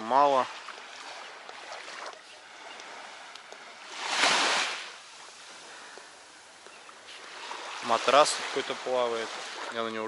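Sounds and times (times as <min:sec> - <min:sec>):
wave washing onto sand: 0:00.0 - 0:10.0.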